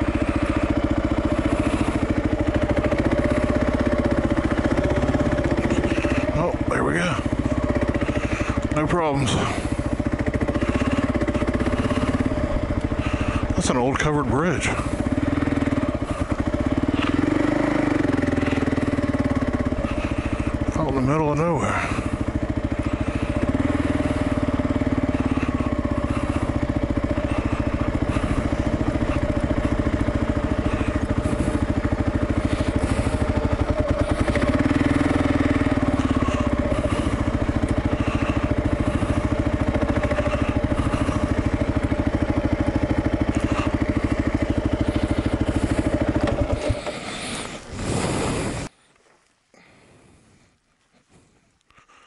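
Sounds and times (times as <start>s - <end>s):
motorcycle engine running: 0.0s - 48.7s.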